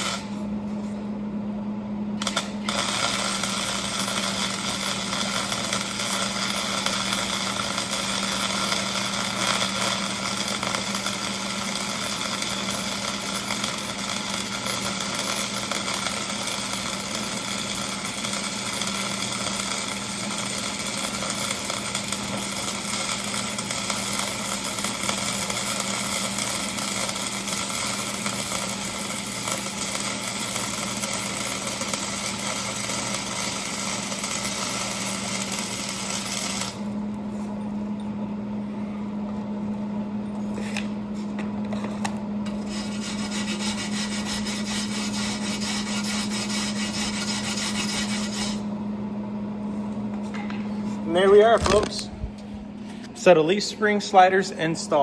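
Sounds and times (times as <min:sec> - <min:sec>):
wire welder crackling: 0:00.0 - 0:00.5, 0:02.2 - 0:37.2, 0:41.6 - 0:48.7, 0:51.1 - 0:53.3
low welder hum: 0:00.0 - 0:55.0.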